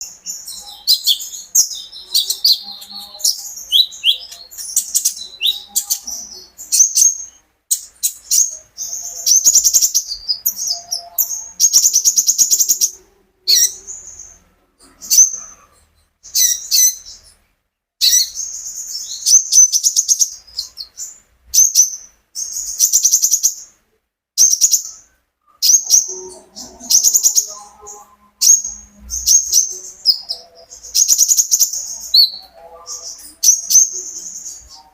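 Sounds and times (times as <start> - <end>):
songbird trilling and chirping: 0.0 - 17.4, 18.0 - 23.8, 24.4 - 34.9.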